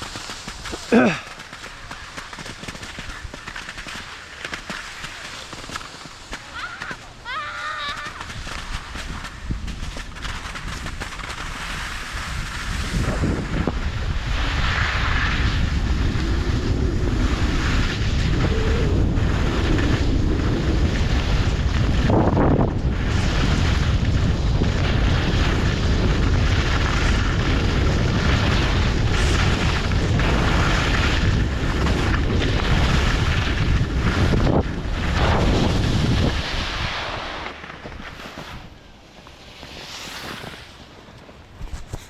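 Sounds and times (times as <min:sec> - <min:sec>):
wind rushing over microphone: 0:05.6 - 0:42.0.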